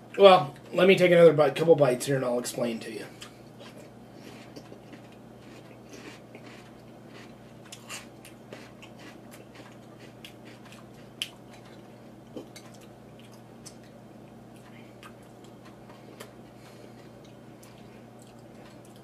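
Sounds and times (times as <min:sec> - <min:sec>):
chewing crunchy cereal: 0:03.2 - 0:19.0.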